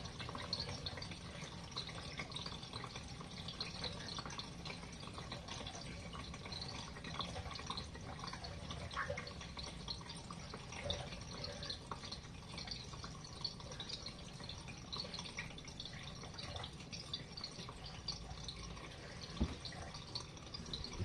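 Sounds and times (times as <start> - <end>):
water draining from washing machine: 0.0 - 21.0
water trickling and dripping: 0.0 - 21.0.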